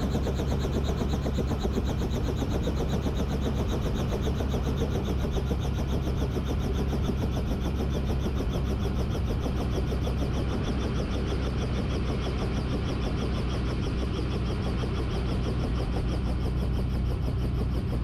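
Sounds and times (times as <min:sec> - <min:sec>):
helicopter engine drone: 0:00.0 - 0:18.0.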